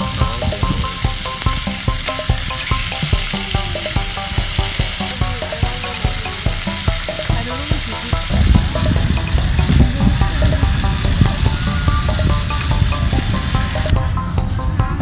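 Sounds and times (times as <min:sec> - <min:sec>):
steaks sizzling in a pan: 0:00.0 - 0:13.9.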